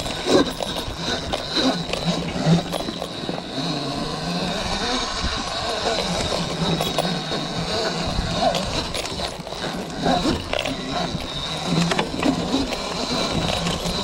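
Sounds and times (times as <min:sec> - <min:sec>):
electric motor whine: 0:00.0 - 0:14.0
knocks and clatter: 0:00.0 - 0:14.0
rough rolling noise on dirt: 0:00.0 - 0:14.0.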